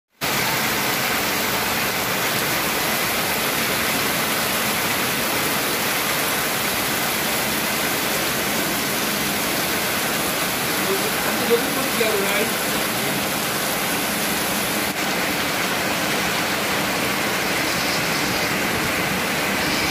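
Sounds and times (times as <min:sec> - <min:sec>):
loud rain falling: 0:00.1 - 0:19.9.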